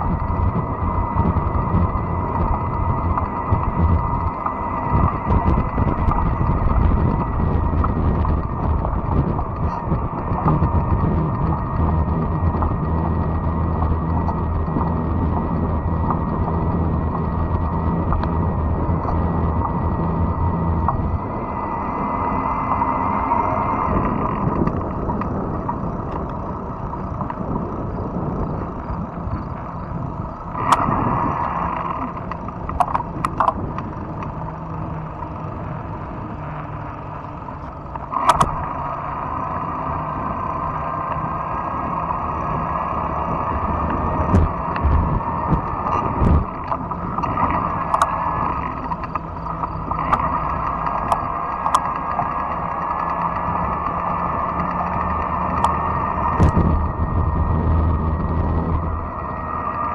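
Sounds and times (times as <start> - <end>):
sharp clicks and rattles: 0.0 - 21.4, 22.6 - 59.9
bike tyres humming on trail: 0.0 - 59.9.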